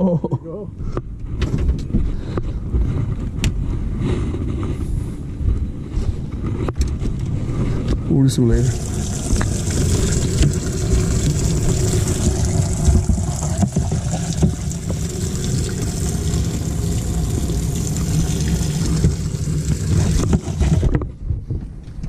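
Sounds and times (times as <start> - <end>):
wind rumbling on microphone: 0.7 - 22.0
low hum: 2.0 - 22.0.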